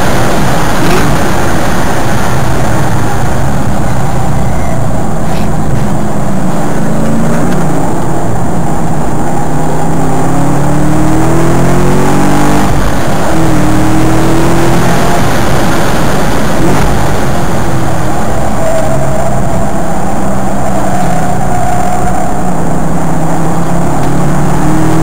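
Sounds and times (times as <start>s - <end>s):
car engine accelerating hard: 0.0s - 25.0s
wind noise: 0.0s - 25.0s.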